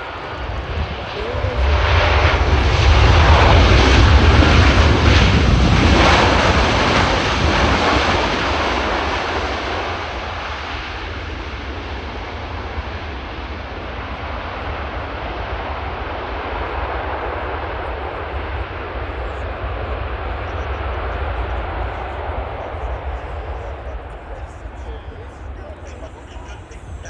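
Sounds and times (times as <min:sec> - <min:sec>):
jet airliner engine noise: 0:00.0 - 0:27.0.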